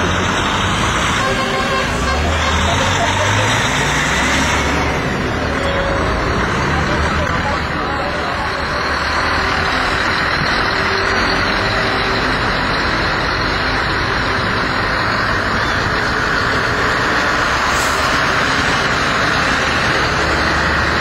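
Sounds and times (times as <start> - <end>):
lorry diesel engines running: 0.0 - 21.0.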